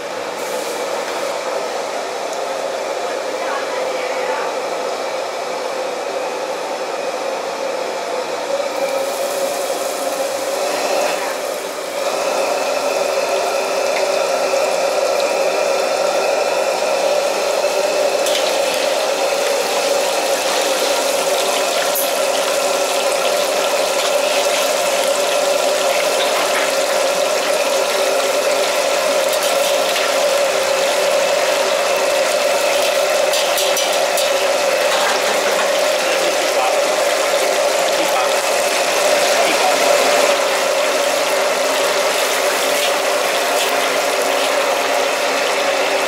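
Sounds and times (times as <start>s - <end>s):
food deep-frying in hot oil: 0.0s - 46.0s
stove mechanical hum: 0.0s - 46.0s.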